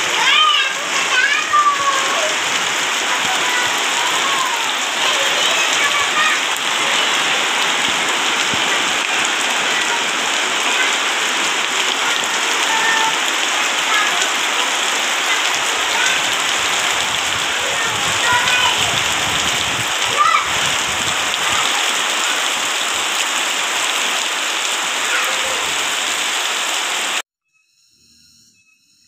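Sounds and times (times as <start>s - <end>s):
heavy rain on leaves: 0.0s - 27.2s.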